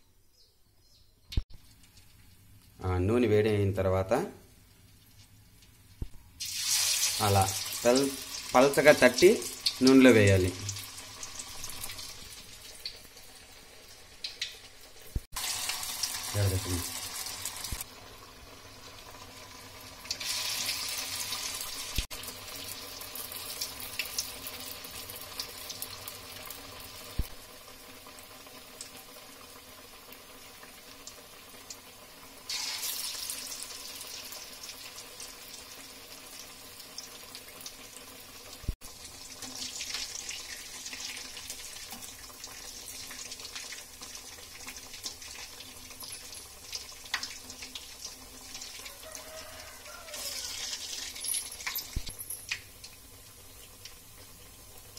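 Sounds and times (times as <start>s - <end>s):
food deep-frying in oil: 1.3s - 54.9s.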